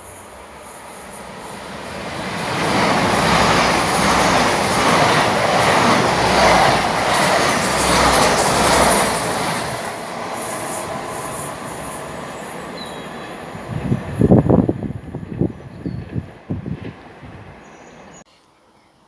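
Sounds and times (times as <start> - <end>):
train passing at speed: 0.0 - 18.2.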